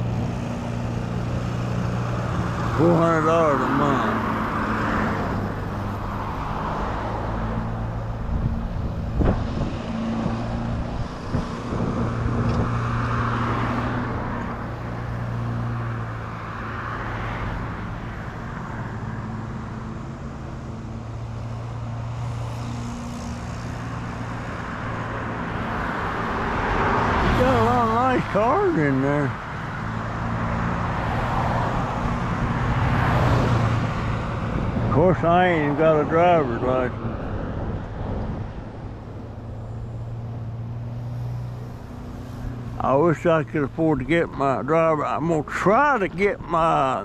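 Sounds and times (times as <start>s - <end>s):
cars passing by: 0.0s - 47.0s
low engine hum: 0.0s - 47.0s.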